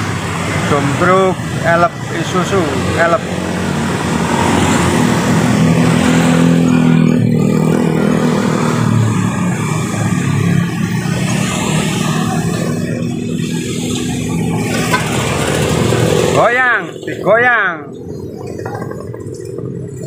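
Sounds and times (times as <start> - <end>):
diesel truck engine running: 0.0 - 20.0
motorbikes passing: 0.0 - 20.0.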